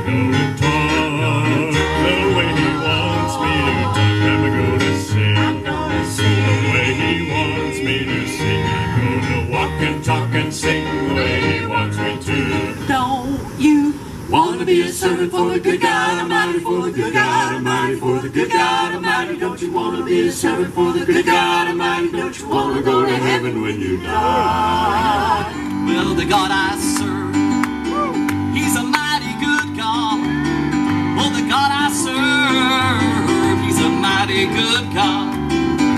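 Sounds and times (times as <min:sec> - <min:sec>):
keyboard: 0:00.0 - 0:13.1, 0:14.4 - 0:35.9
gospel group singing in harmony: 0:00.0 - 0:35.9.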